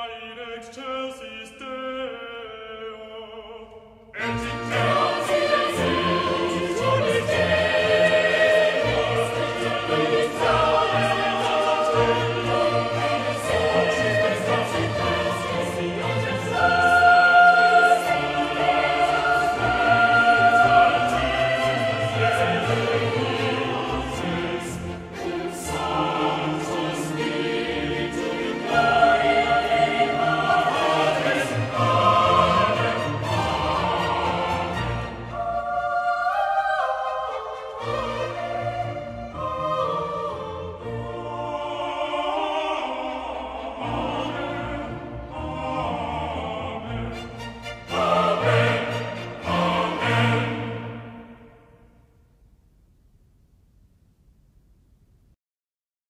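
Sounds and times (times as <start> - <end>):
choir singing long held notes: 0.0 - 52.2.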